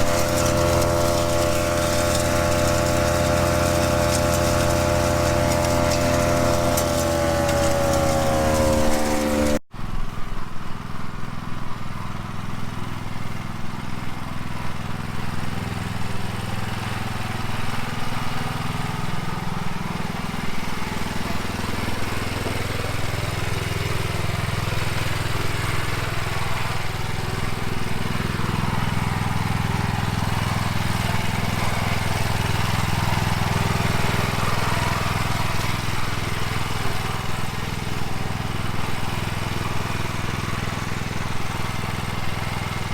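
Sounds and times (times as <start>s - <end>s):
branch chipper engine running: 0.0s - 9.6s, 14.4s - 42.9s.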